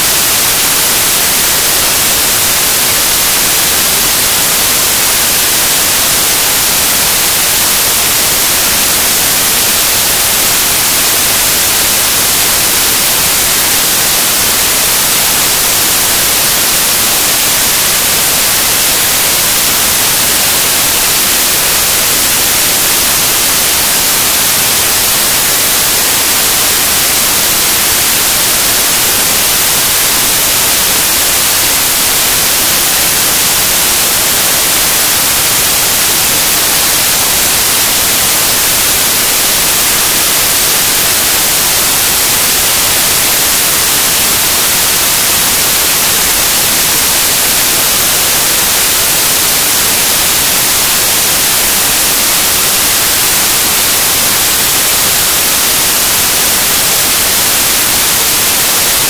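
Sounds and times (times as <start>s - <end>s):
static hiss: 0.0s - 59.0s.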